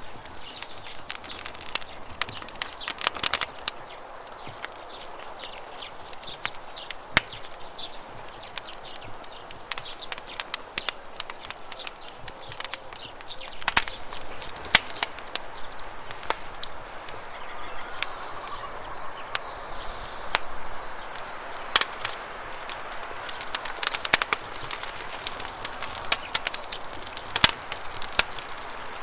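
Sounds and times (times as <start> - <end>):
campfire crackling: 0.0 - 29.0
small bird calling: 0.0 - 29.0.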